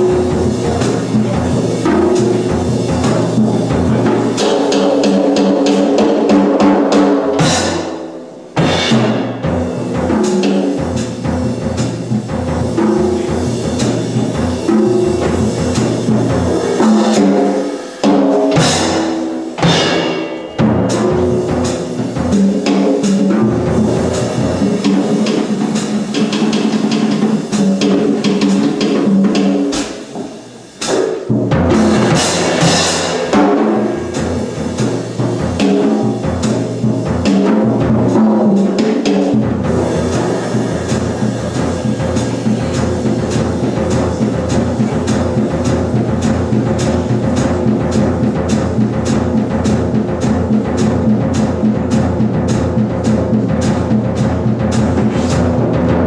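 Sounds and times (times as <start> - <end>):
drums in busy rhythm: 0.0 - 56.0.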